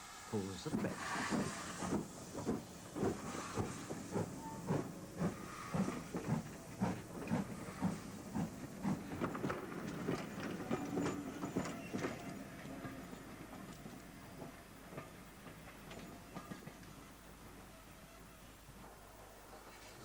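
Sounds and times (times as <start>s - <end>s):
steam hiss: 0.0s - 20.0s
steam locomotive exhaust chuffing: 0.3s - 18.6s.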